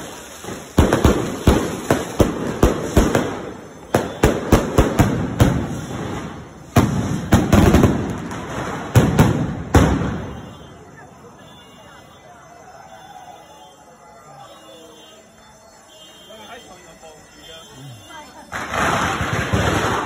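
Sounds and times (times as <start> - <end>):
fireworks bangs echoing: 0.0 - 12.2, 15.9 - 20.0
fireworks crackling: 0.0 - 20.0.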